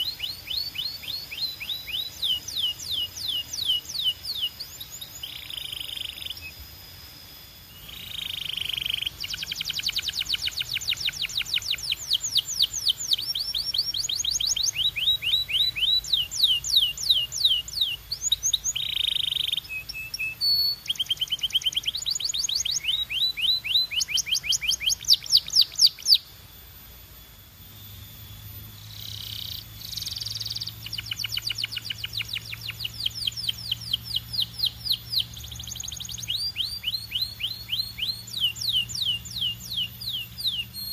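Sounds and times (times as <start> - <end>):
canary singing trills: 0.0 - 6.8, 7.6 - 26.3, 27.9 - 40.9.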